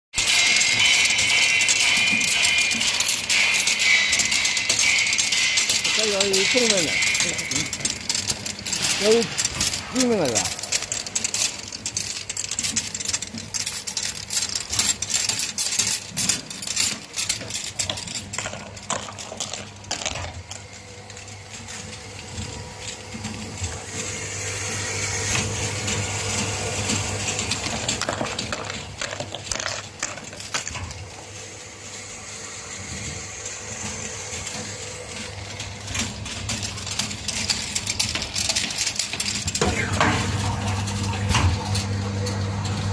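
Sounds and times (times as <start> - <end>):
machine hum: 0.2 - 42.9.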